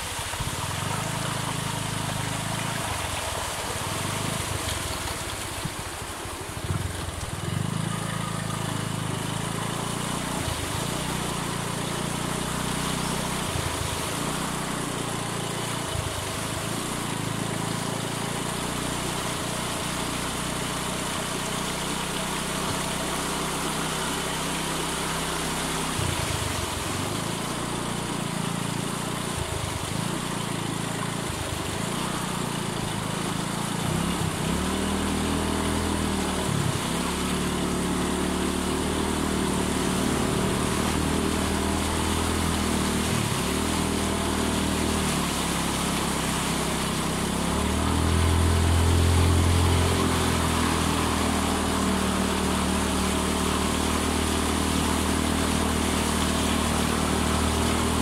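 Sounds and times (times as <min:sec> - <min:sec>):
motorcycle engine: 0:00.0 - 0:58.0
water rushing: 0:00.0 - 0:58.0
wind: 0:00.0 - 0:58.0.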